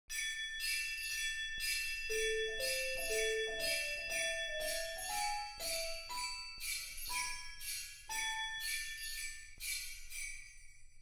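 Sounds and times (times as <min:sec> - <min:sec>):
bell-toned melody: 0:00.1 - 0:11.0
sleigh bells shaken: 0:00.2 - 0:11.0.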